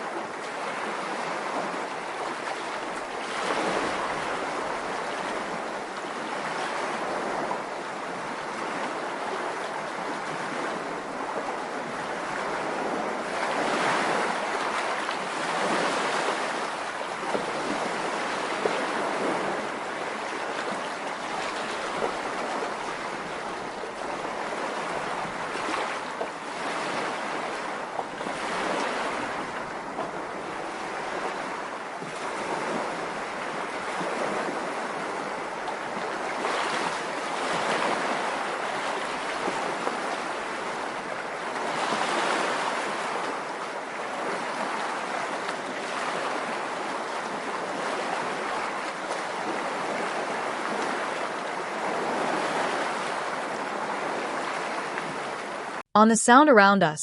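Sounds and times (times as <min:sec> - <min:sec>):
wind: 0:00.0 - 0:55.9
waves breaking on shore: 0:00.0 - 0:57.0.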